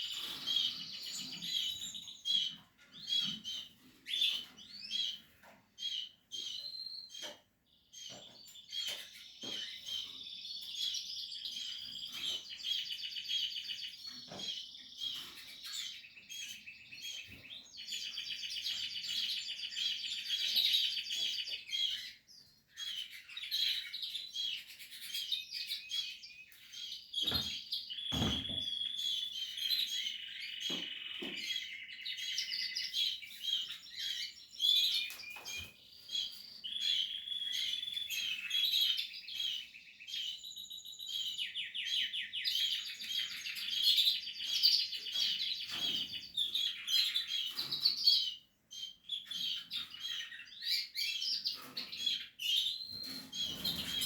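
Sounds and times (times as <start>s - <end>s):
canaries chirping and trilling: 0.0s - 54.0s.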